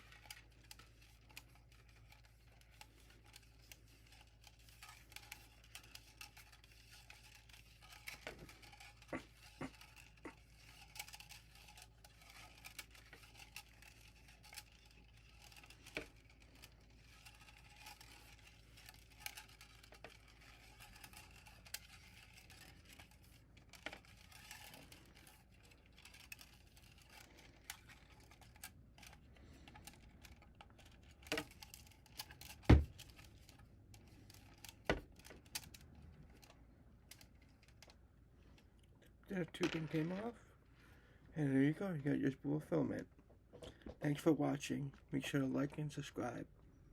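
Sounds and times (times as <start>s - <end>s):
plastic clicks and rustling: 0.0s - 40.6s.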